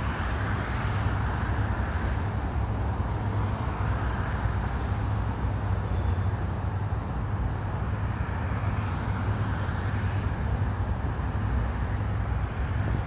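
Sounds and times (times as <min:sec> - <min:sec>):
traffic noise: 0:00.0 - 0:13.0
wind buffeting microphone: 0:00.0 - 0:13.0.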